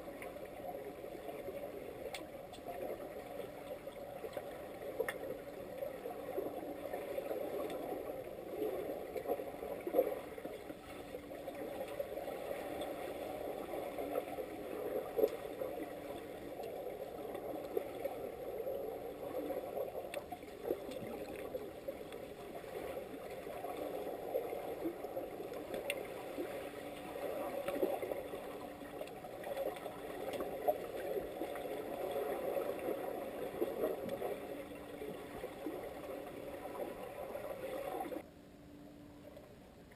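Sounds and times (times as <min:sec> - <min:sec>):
muffled underwater water churn: 0:00.0 - 0:39.9.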